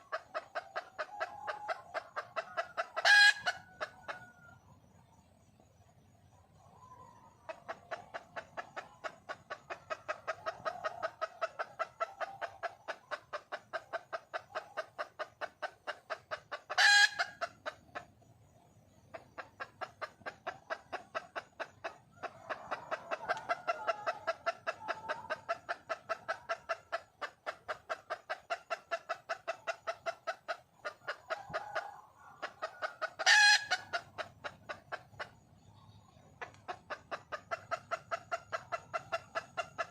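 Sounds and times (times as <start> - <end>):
hen clucking rapidly: 0.0 - 4.4, 6.6 - 39.9.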